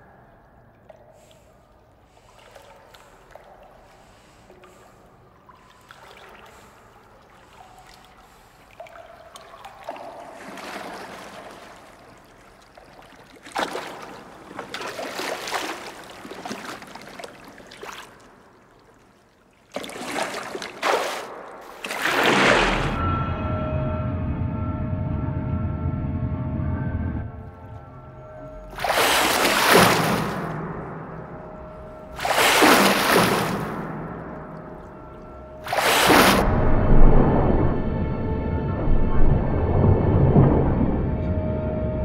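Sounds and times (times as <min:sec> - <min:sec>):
swimming pool water splashing: 0:00.0 - 0:23.0, 0:27.4 - 0:41.4.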